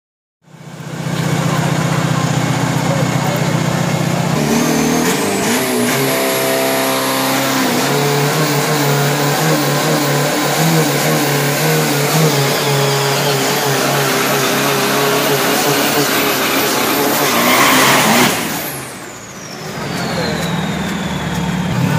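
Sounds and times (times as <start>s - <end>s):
diesel engine revving hard: 0.6s - 21.9s
tyres spinning: 0.8s - 21.9s.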